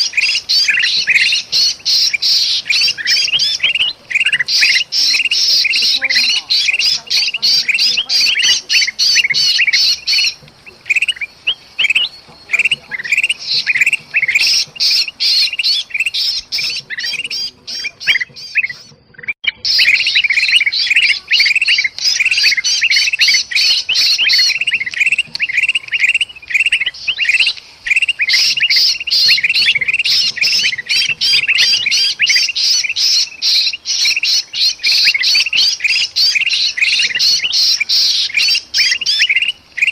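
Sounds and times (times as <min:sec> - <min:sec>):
bird distress calls: 0:00.0 - 0:39.9
birds chattering and squawking: 0:00.0 - 0:39.9.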